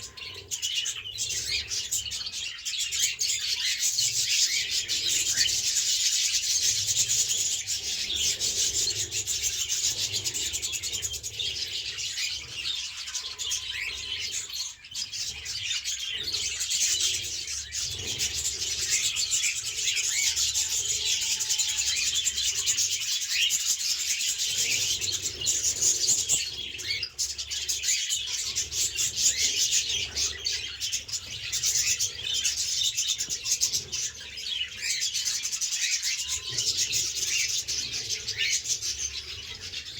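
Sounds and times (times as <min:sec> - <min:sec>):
caged birds chirping: 0:00.0 - 0:39.9.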